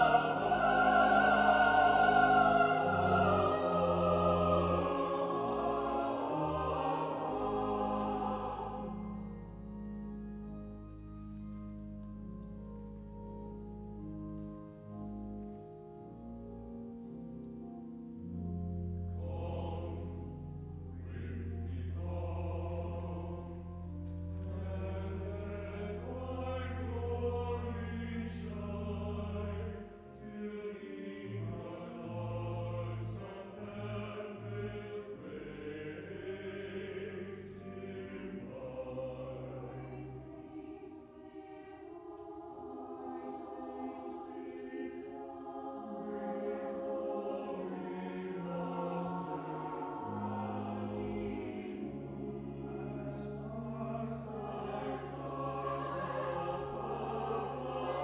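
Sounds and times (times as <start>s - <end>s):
choir singing: 0.0s - 10.1s, 18.9s - 58.0s
pipe organ: 0.0s - 58.0s.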